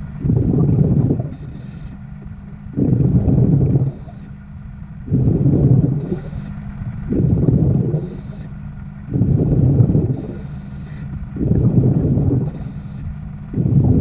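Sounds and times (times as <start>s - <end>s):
bubbling exhale: 0.0s - 14.0s
hissing regulator inhale: 0.2s - 14.0s.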